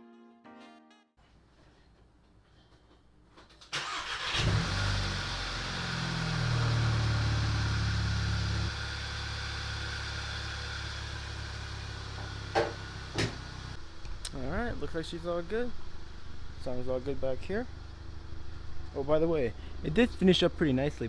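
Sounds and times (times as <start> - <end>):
car engine starting and idling: 3.7 - 21.0.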